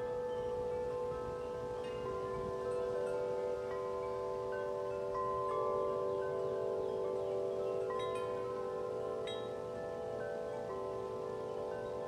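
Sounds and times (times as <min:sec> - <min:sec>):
tubular wind chimes ringing: 0:00.0 - 0:12.0.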